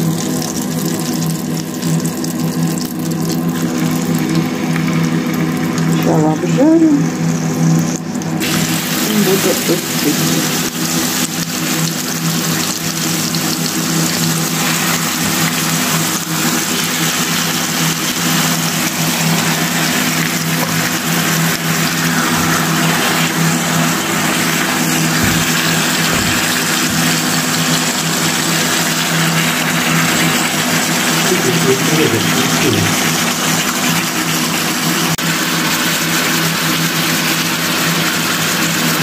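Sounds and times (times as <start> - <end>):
meat sizzling in a frying pan: 0.0 - 6.0, 7.3 - 39.0.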